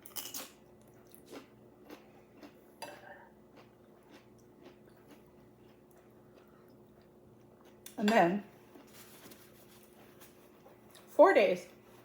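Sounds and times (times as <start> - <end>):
person chewing crunchy food: 0.0 - 8.0, 8.6 - 11.1.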